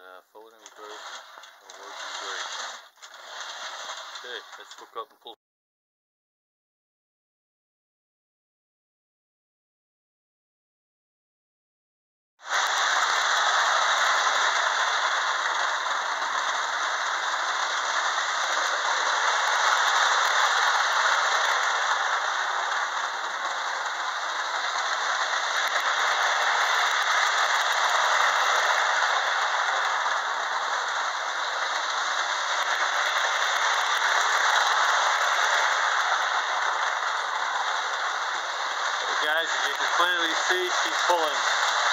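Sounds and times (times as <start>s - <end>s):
toy train rattling whir: 0.1s - 5.1s, 12.4s - 41.9s.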